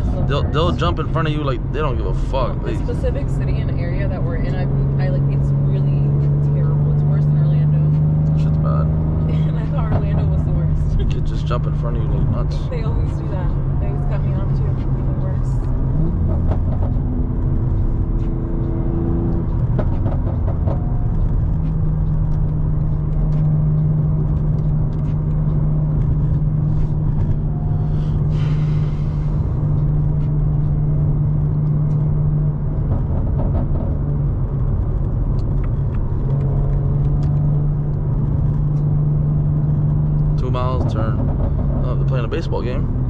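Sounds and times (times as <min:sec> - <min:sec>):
car engine drone: 0:00.0 - 0:43.0
tyre and road rumble: 0:00.0 - 0:43.0.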